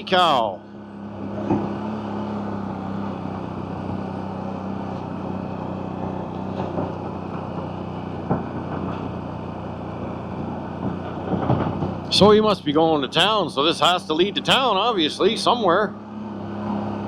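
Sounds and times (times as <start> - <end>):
atv engine running: 0.0 - 17.0
rush of tyres and wind: 0.1 - 13.0, 15.6 - 17.0.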